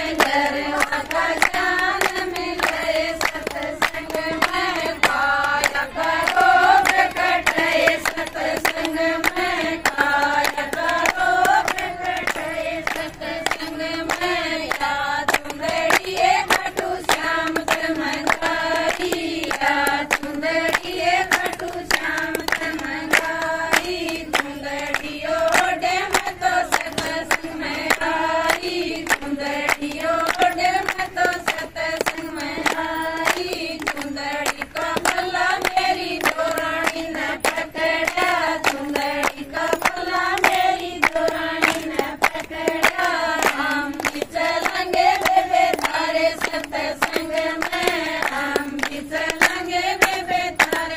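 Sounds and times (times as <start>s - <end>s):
rhythmic hand claps: 0.0s - 50.9s
women singing folk song: 0.0s - 50.9s.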